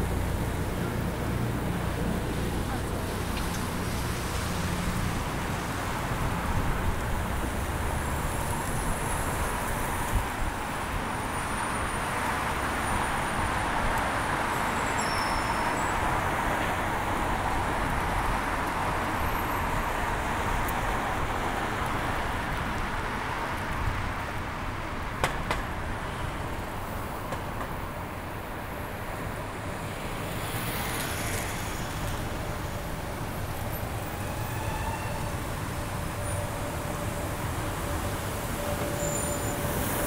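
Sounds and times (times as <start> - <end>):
city road traffic: 0.0 - 40.0.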